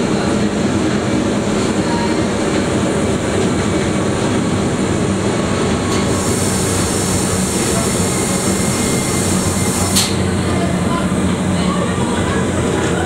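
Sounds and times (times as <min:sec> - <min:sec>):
rack railway car rumbling: 0:00.0 - 0:13.0.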